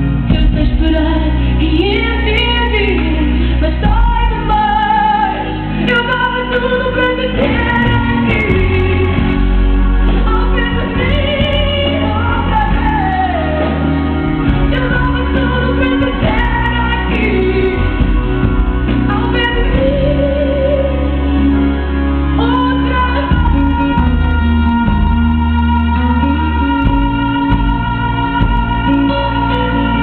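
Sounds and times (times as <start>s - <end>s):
backing music with bass: 0.0s - 30.0s
woman singing: 0.0s - 30.0s.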